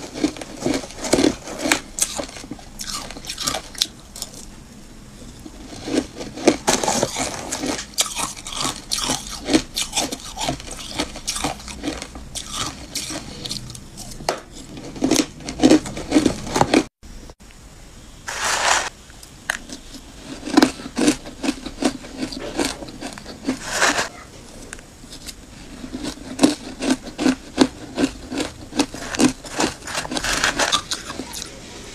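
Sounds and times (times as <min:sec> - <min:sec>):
ice crunching between teeth: 0:00.0 - 0:04.5, 0:05.6 - 0:16.9, 0:20.3 - 0:24.1, 0:25.2 - 0:31.6.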